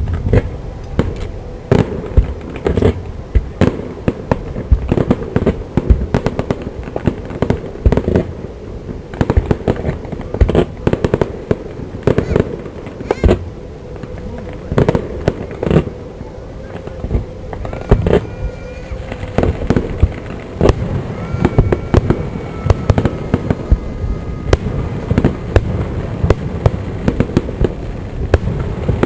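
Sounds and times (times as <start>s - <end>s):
fireworks bangs echoing: 0.0s - 16.0s, 16.7s - 29.0s.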